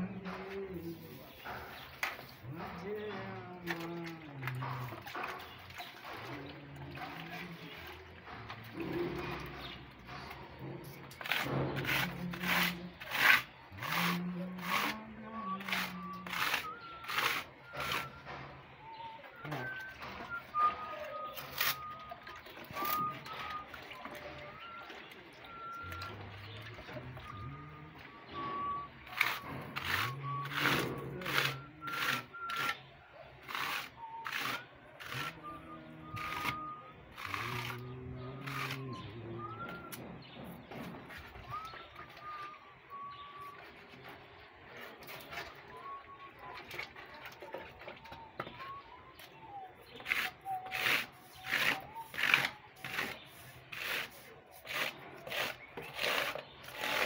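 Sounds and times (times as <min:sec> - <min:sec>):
hand tool scraping rough wall: 0:00.0 - 0:25.2, 0:25.8 - 0:45.9, 0:49.8 - 0:57.0
birds chirping: 0:00.0 - 0:57.0.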